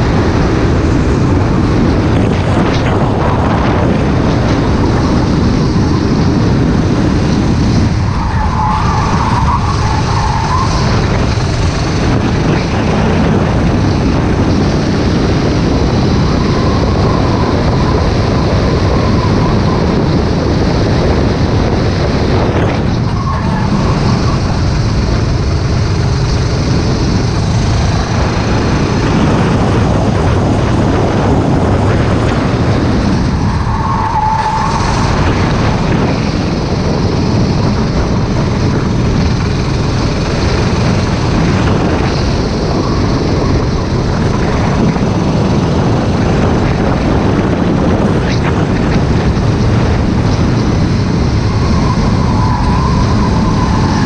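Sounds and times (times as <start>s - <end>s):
race kart engine running hard: 0.0s - 54.0s
wind on microphone: 0.0s - 54.0s.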